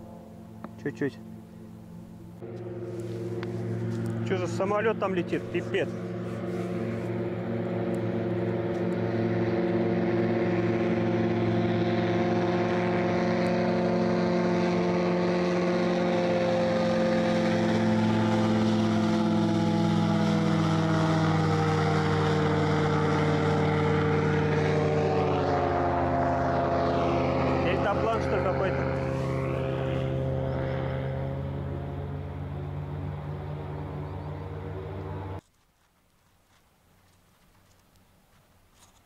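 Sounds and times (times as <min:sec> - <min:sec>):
propeller aircraft passing overhead: 0:00.0 - 0:35.5.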